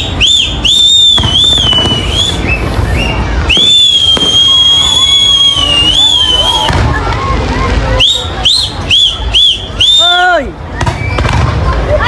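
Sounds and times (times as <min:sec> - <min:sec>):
fireworks booming and crackling: 0:00.0 - 0:12.0
whistling fireworks: 0:00.0 - 0:12.0.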